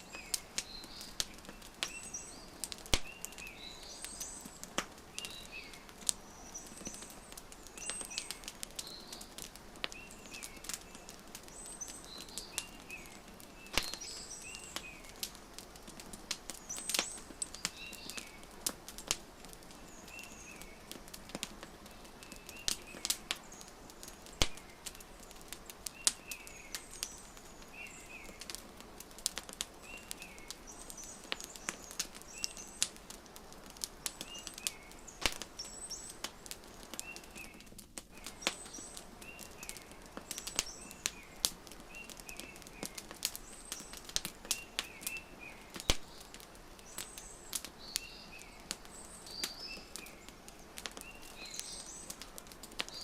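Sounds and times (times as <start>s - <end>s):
small birds chirping: 0.0s - 53.0s
wood fire crackling: 0.0s - 53.0s.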